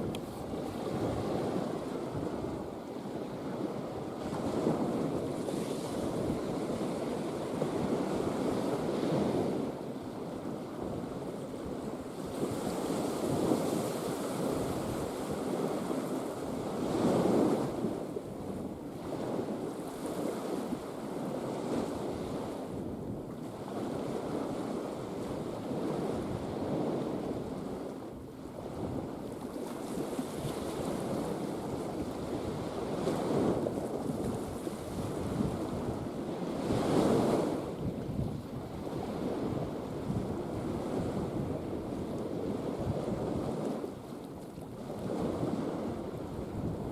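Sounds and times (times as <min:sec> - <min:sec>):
sea surf washing in: 0:00.0 - 0:46.9
wind buffeting microphone: 0:00.0 - 0:46.9.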